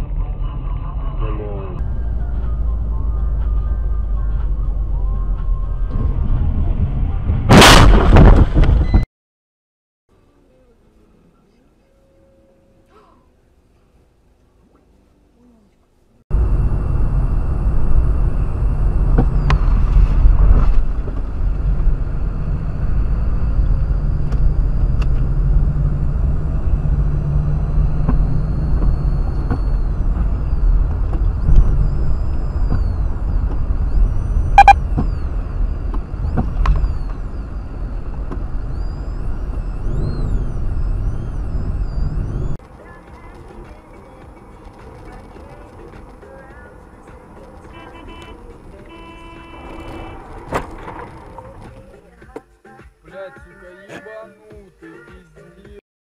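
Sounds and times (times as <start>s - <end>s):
car road and engine noise: 0.0s - 9.0s, 16.0s - 52.3s.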